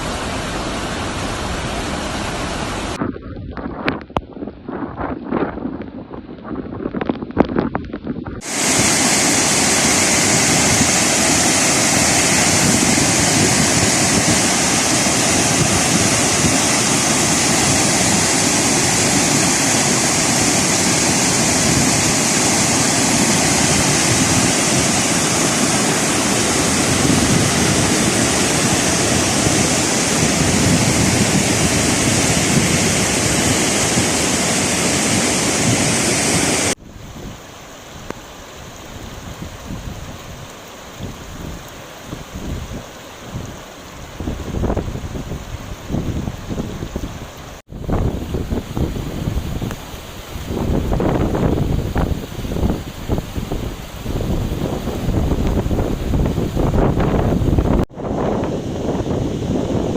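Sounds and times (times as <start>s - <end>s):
floodwater rushing: 0.0s - 3.0s, 8.4s - 59.9s.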